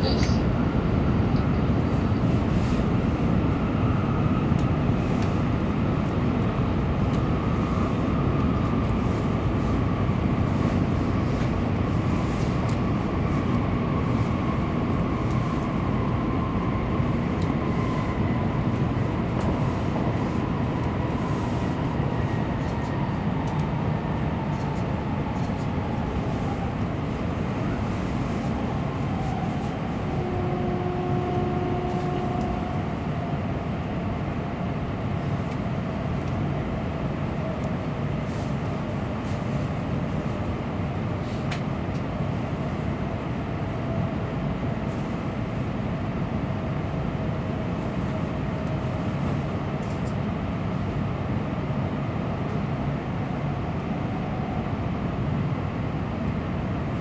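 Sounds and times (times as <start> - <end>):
train rumble on rails: 0.0 - 57.0.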